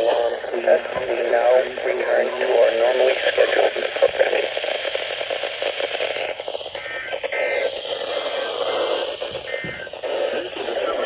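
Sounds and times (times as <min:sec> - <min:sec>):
radio static hissing and crackling: 0:00.0 - 0:11.0
spoken radio bulletins: 0:00.0 - 0:11.0.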